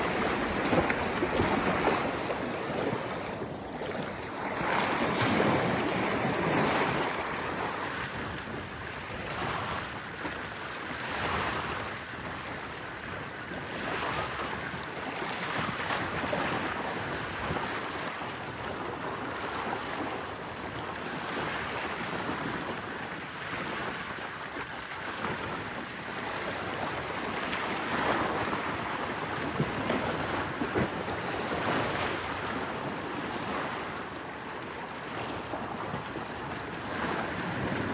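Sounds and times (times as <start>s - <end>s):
sea waves breaking: 0.0s - 37.9s.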